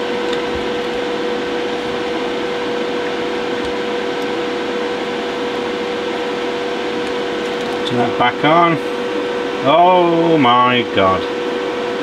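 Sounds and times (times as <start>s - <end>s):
fan whirring: 0.0s - 12.0s
mid-pitched hum: 0.0s - 12.0s.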